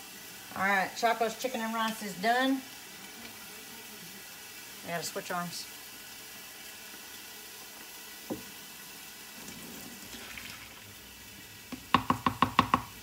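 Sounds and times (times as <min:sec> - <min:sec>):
steady kitchen hiss: 0:00.0 - 0:13.0.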